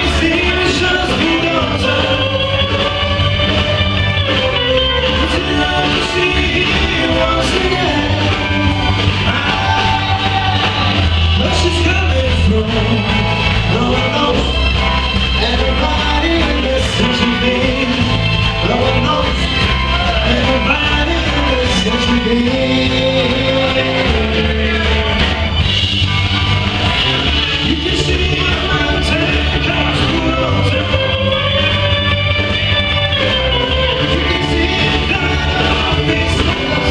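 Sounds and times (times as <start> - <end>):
person singing: 0.0 - 25.9, 27.2 - 36.9
live rock band playing: 0.0 - 36.9.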